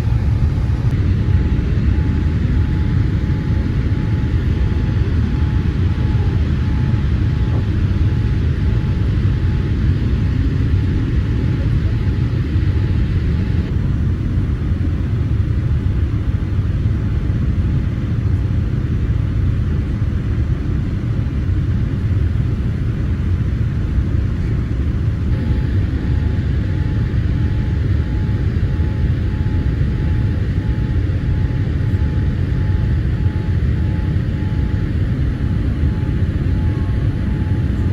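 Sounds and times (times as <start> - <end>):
airliner engine rumble in cabin: 0.0 - 37.9.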